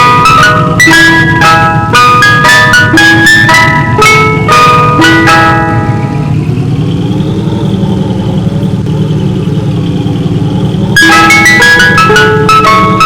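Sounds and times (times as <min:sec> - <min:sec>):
ice cream truck chiming jingle: 0:00.0 - 0:13.0
truck engine idling: 0:00.0 - 0:13.0.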